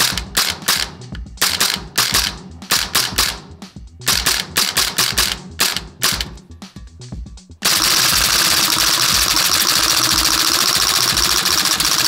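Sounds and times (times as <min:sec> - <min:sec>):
airsoft rifle firing: 0:00.0 - 0:03.5, 0:04.1 - 0:06.4, 0:07.6 - 0:12.0.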